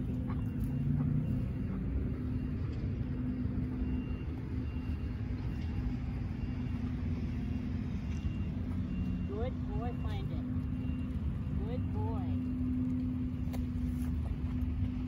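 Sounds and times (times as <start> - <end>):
continuous engine hum: 0.0 - 15.0
road traffic rumble: 0.0 - 15.0.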